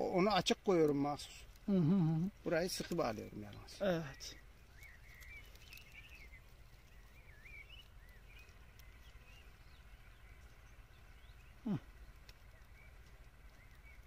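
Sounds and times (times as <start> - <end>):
faint warbling birdsong: 0.0 - 14.0.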